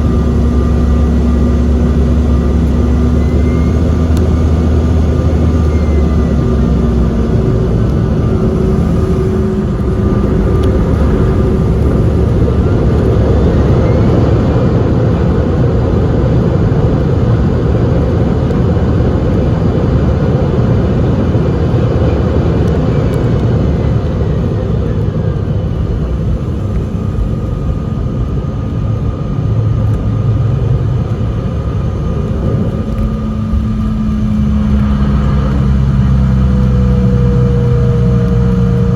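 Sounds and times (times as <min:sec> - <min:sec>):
airliner engines rumbling: 0:00.0 - 0:38.9
high engine whine: 0:00.0 - 0:38.9.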